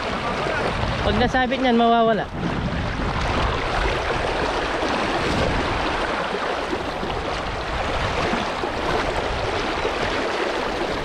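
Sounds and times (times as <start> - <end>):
river current rushing: 0.0 - 11.0.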